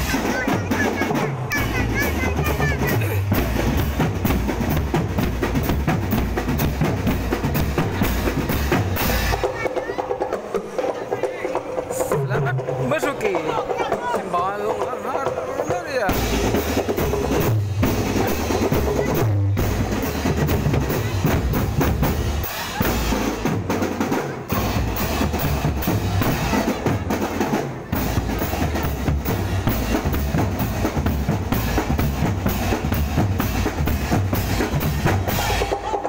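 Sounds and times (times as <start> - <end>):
drum band playing a march: 0.0 - 36.0.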